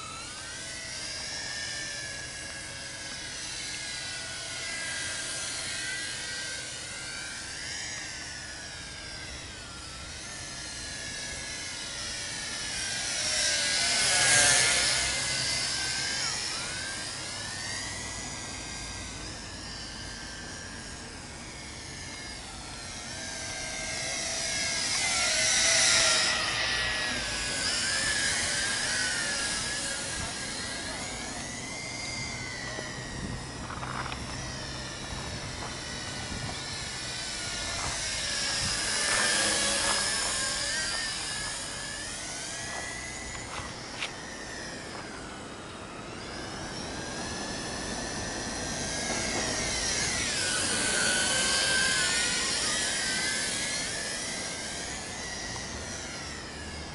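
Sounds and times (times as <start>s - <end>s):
drone propellers whining: 0.0s - 56.9s.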